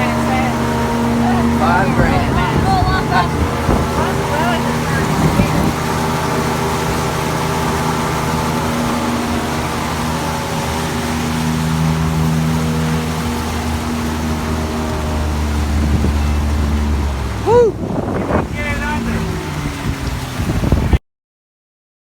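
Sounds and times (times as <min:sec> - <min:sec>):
boat motor running: 0:00.0 - 0:21.0
water rushing: 0:00.0 - 0:21.0
wind: 0:00.0 - 0:21.0.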